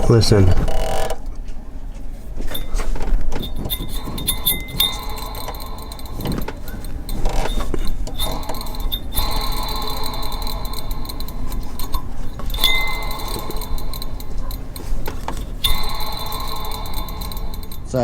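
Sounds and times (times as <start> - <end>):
turbo wheel metallic ringing: 0.0 - 18.0
metallic ticks: 2.5 - 18.0.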